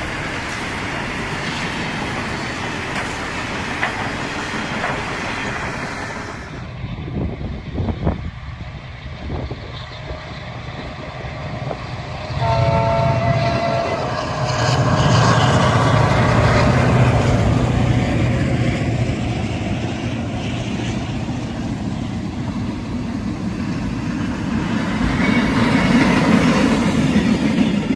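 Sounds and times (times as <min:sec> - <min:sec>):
locomotive engine rumbling: 0:00.0 - 0:27.9
train wheel and rail noise: 0:00.0 - 0:27.9.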